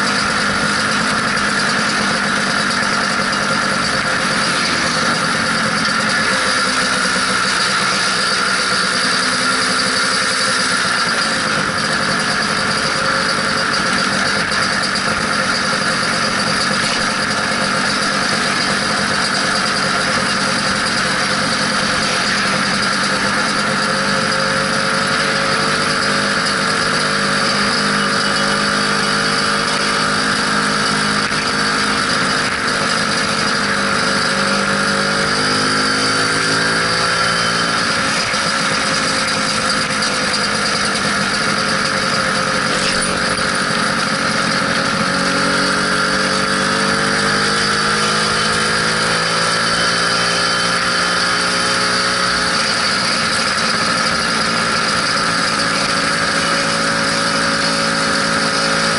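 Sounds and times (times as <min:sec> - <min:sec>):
scooter engine running: 0:00.0 - 0:58.9.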